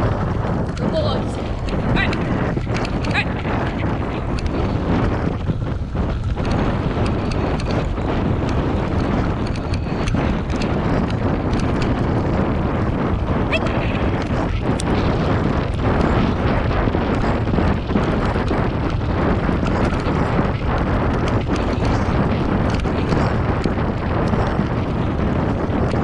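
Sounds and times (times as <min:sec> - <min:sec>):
bike rolling on dirt trail: 0:00.0 - 0:26.0
wind buffeting microphone: 0:00.0 - 0:26.0
small clicks and rattles: 0:00.1 - 0:26.0.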